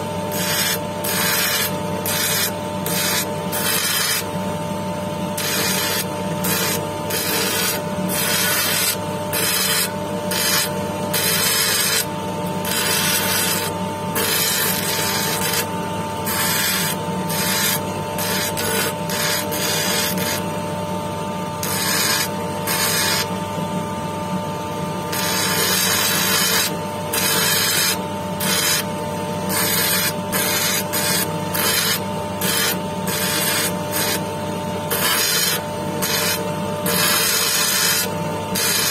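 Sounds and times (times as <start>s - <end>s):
stone scraping on grinding wheel: 0.0s - 20.7s, 21.4s - 23.5s, 25.1s - 38.9s
motor hum: 0.0s - 38.9s.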